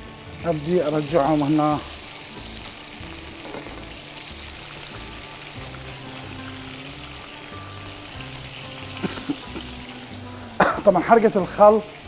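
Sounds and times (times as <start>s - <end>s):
background music with low notes: 0.0s - 12.0s
chicken sizzling in oil: 0.0s - 12.0s.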